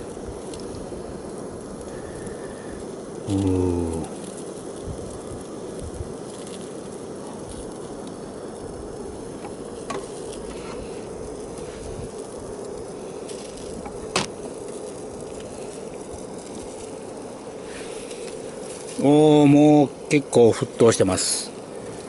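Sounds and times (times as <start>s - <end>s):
water boiling in metal cup: 0.0s - 22.0s.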